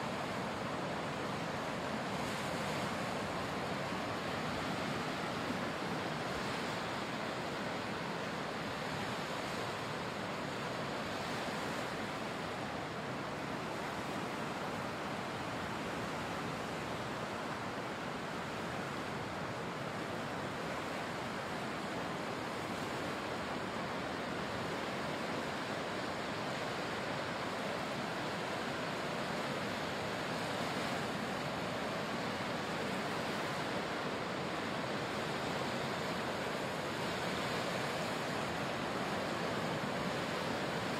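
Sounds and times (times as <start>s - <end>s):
small waves washing onto sand: 0.0s - 40.9s.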